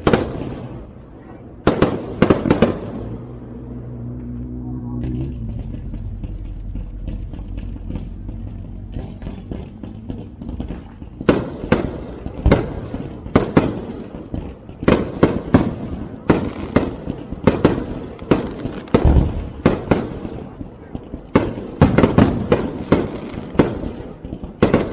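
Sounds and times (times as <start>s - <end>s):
fireworks crackling bursts: 0.0s - 3.4s, 5.3s - 24.9s
loud sharp fireworks bangs: 0.0s - 3.4s, 5.7s - 24.9s.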